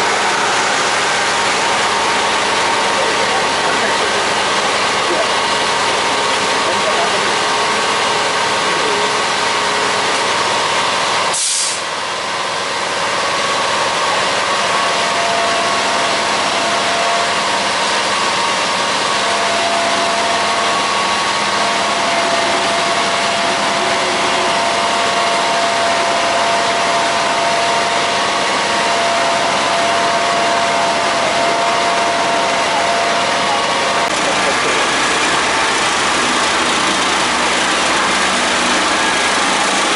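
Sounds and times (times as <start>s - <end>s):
machinery engine running: 0.0s - 39.9s.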